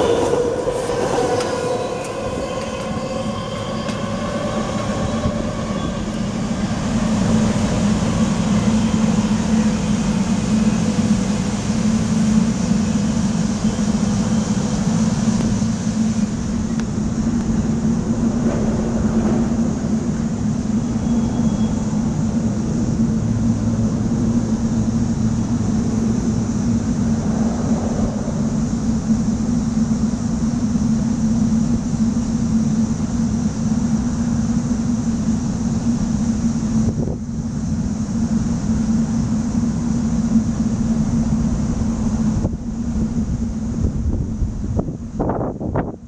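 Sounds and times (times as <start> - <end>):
wind rumbling on microphone: 0.0 - 46.0
low mechanical hum: 2.0 - 46.0.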